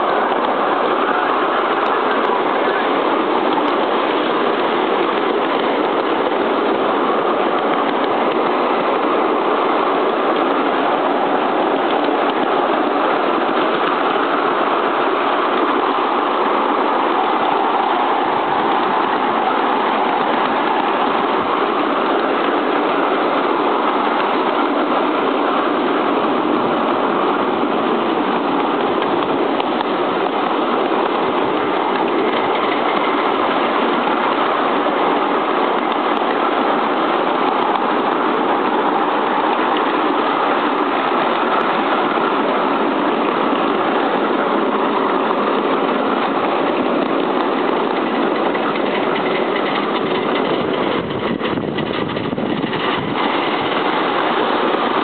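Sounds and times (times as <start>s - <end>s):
steam locomotive chuffing: 0.0s - 55.0s
wheels on rails: 0.0s - 55.0s.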